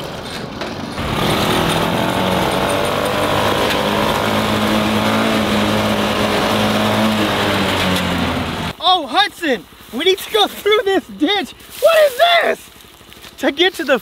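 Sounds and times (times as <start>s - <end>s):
small engine running: 0.8s - 8.8s, 9.4s - 14.0s.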